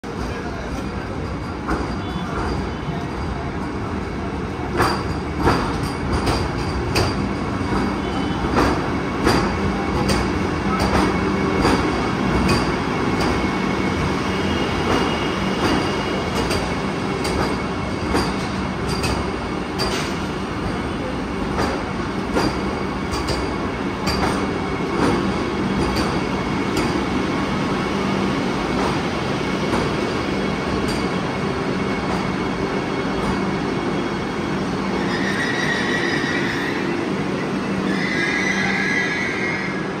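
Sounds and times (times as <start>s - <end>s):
train rumbling and humming: 0.0s - 40.0s.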